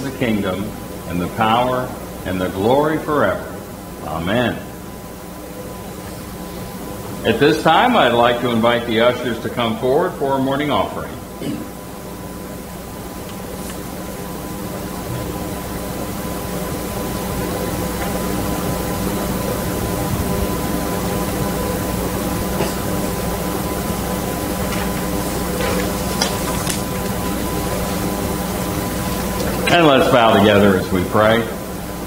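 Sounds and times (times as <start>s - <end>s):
low electrical hum: 0.0s - 32.0s
room tone hiss: 0.0s - 32.0s.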